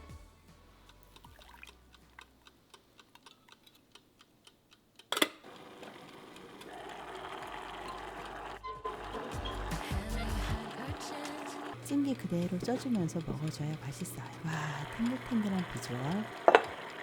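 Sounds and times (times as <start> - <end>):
dial timer ticking: 0.9 - 17.0.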